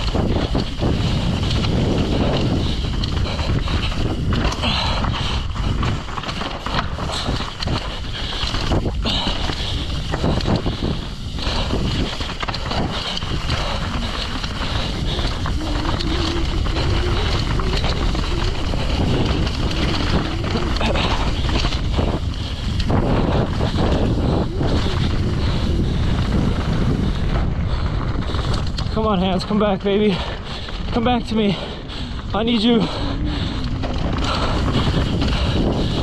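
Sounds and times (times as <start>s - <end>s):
bike rattling over bumps: 0.0s - 36.0s
wind rushing over microphone: 0.0s - 36.0s.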